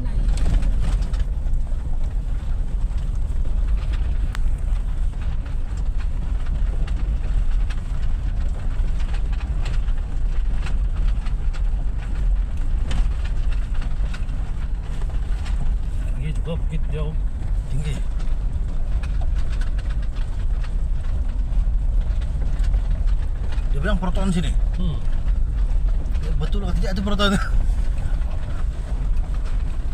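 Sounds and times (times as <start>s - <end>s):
vehicle rumbling on rough road: 0.0s - 29.9s
clicks and rattles: 2.9s - 29.9s.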